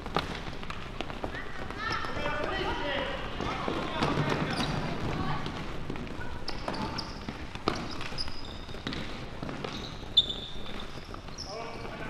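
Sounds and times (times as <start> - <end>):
general din of play: 0.0 - 12.0
sneaker squeaks on floor: 0.1 - 2.5, 3.4 - 12.0.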